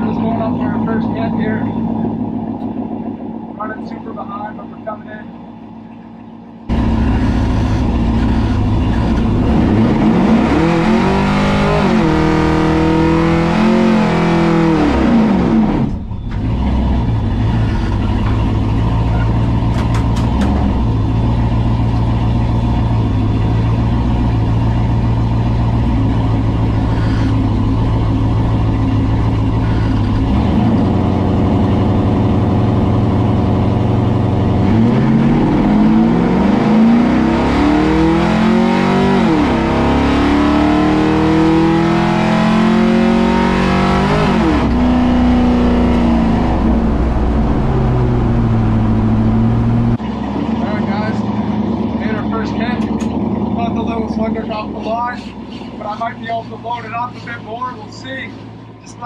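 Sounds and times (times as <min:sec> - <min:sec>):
car engine revving and idling: 0:00.0 - 0:59.0.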